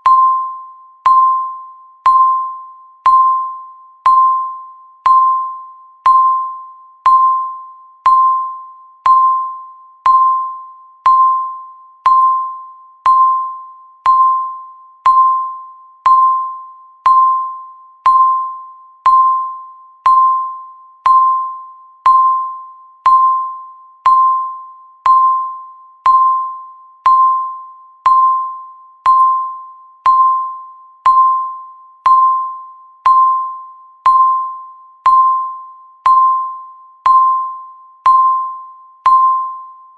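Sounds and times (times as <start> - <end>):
timer ticking high tone: 0.0 - 39.9.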